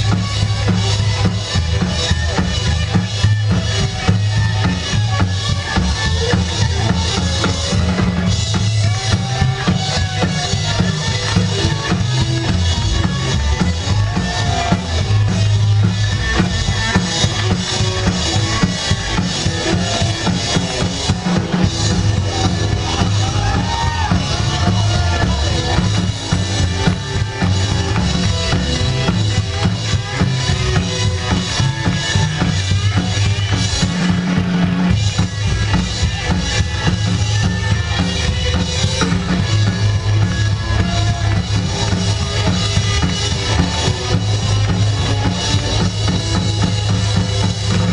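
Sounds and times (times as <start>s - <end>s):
drum kit beat: 0.0s - 47.9s
rockabilly band playing: 0.0s - 47.9s.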